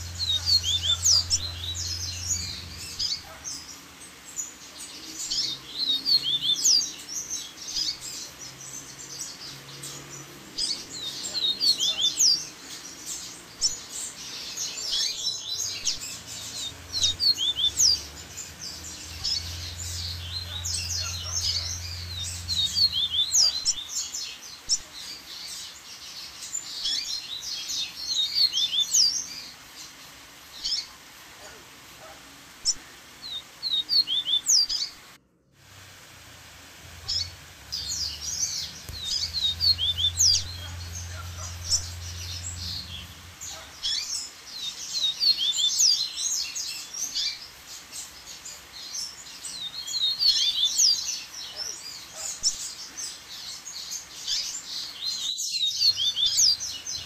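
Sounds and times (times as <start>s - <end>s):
bird singing high twittering notes: 0.0s - 24.9s, 26.5s - 29.5s, 32.6s - 35.1s, 36.0s - 47.4s, 49.5s - 51.4s, 53.3s - 57.0s.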